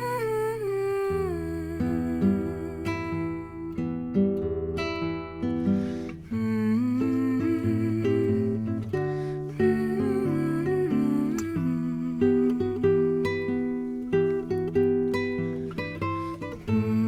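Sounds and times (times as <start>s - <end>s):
plucked acoustic guitar music: 0.0s - 17.0s.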